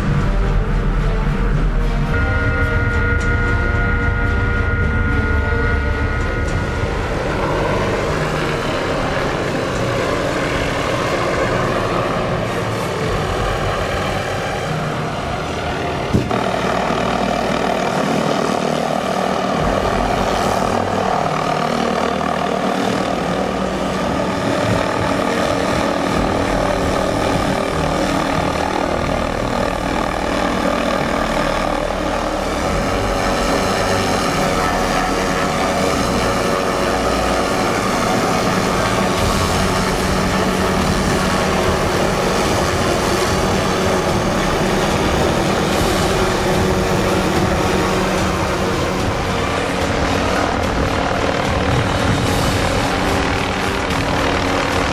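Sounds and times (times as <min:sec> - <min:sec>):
helicopter rotor and engine: 0:00.0 - 0:54.9.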